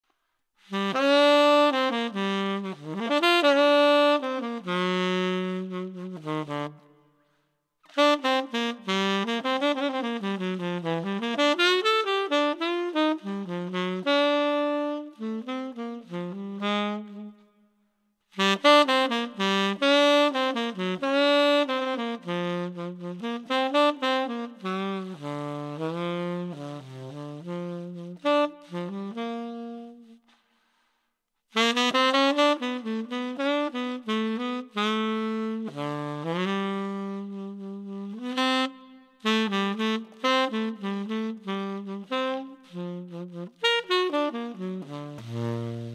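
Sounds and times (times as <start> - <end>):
tenor saxophone playing runs: 0.6 - 7.1, 7.9 - 17.6, 18.3 - 30.4, 31.5 - 45.9.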